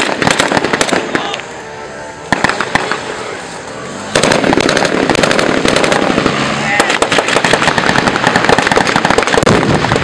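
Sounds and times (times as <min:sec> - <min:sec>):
small-arms gunfire: 0:00.0 - 0:01.4, 0:02.3 - 0:03.0, 0:04.1 - 0:10.0.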